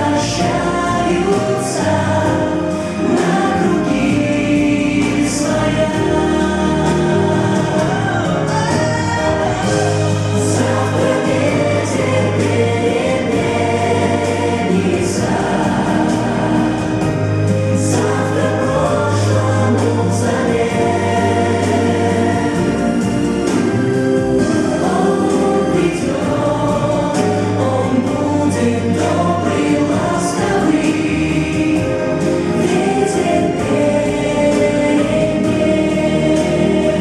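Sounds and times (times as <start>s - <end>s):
choir singing: 0.0s - 37.0s
instrumental accompaniment with bass: 0.0s - 37.0s.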